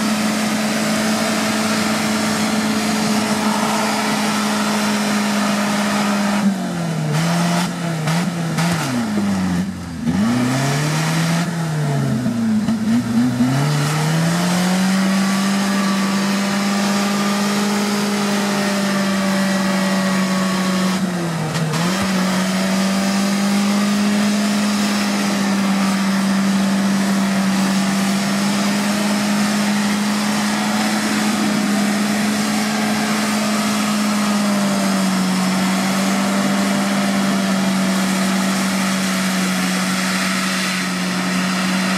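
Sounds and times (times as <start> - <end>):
engine revving hard: 0.0 - 41.9.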